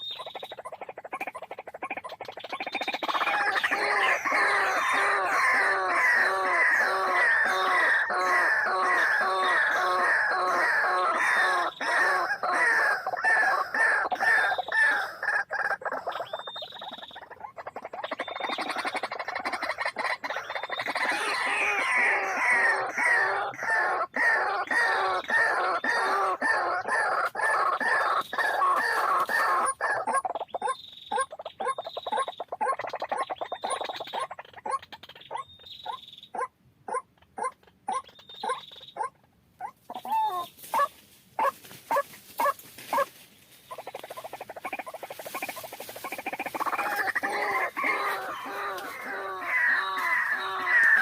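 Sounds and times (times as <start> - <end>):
bird harsh repeated calls: 0.0 - 51.0.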